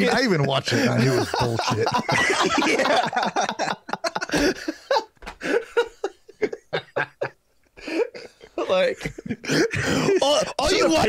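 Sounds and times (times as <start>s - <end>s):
men laughing: 0.0s - 11.0s.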